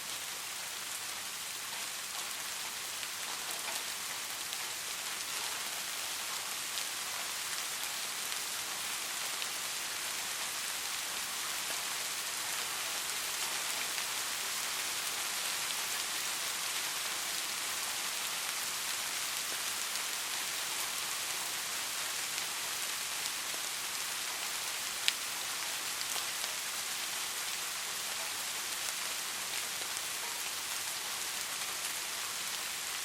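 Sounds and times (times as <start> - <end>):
soft rain falling: 0.0 - 33.0.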